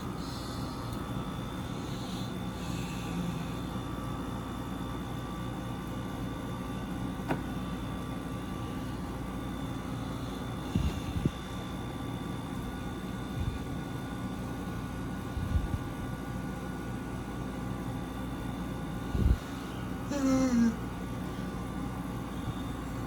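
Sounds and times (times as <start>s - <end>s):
window air conditioners humming: 0.0s - 23.0s.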